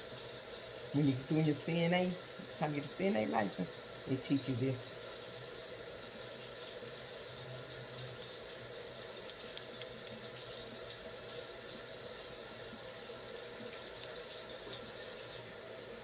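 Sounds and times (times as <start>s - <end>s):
tap water running: 0.0s - 16.0s.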